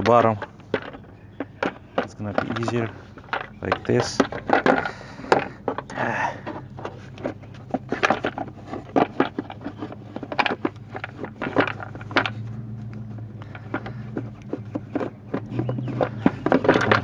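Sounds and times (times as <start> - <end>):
hands handling parts: 0.0 - 17.0
steady low hum: 0.0 - 17.0.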